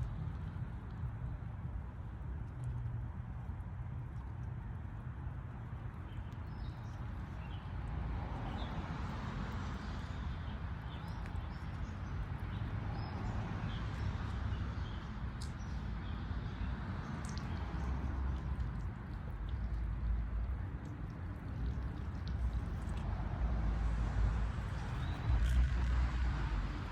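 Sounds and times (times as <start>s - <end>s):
low rumble and hiss: 0.0s - 26.9s.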